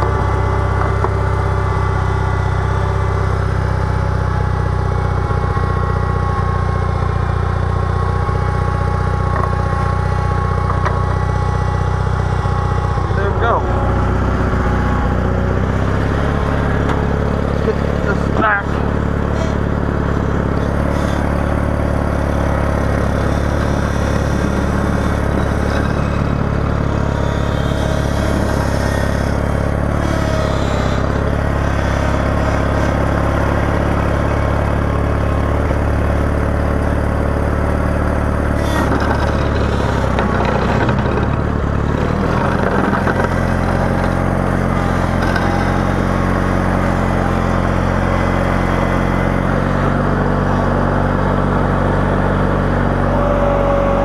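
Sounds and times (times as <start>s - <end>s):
small tractor engine running: 0.0s - 54.0s.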